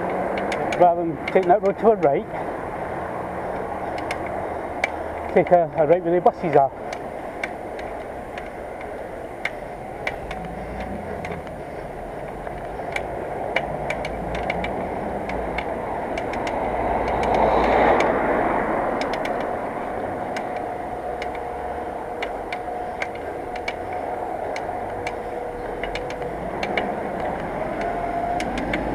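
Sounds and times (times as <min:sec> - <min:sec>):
motor vehicle passing: 0:00.0 - 0:28.9
road rush: 0:00.0 - 0:28.9
sharp irregular ticks: 0:00.0 - 0:28.9.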